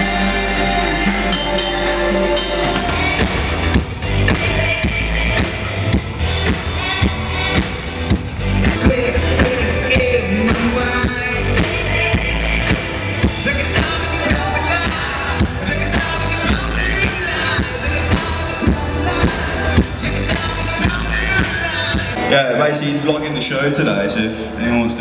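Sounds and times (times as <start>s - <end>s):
rock music with singing: 0.0s - 24.6s.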